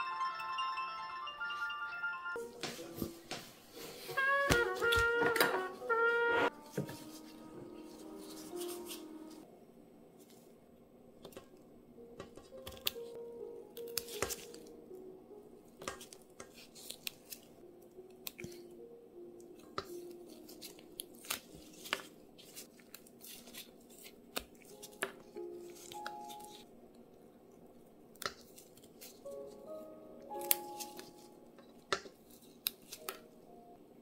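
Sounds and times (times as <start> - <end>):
soft background music: 0.0 - 9.8, 11.7 - 27.0, 28.8 - 34.0.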